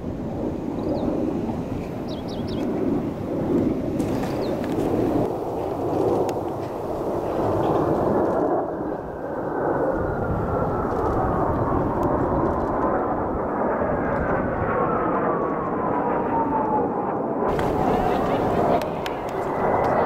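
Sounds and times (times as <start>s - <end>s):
jets passing overhead: 0.0s - 20.0s.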